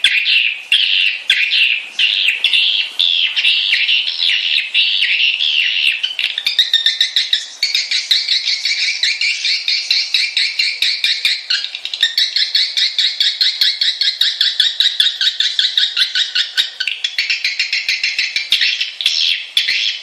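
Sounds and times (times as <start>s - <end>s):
bird calls warbling and chirping: 0.0s - 20.0s.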